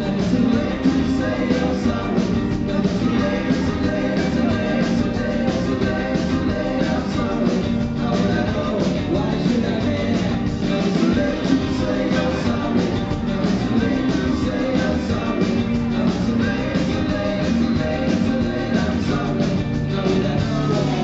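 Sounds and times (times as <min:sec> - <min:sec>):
electric guitars: 0:00.0 - 0:21.0
live rock band: 0:00.0 - 0:21.0
person singing: 0:00.0 - 0:21.0
steady drum beat: 0:00.0 - 0:21.0.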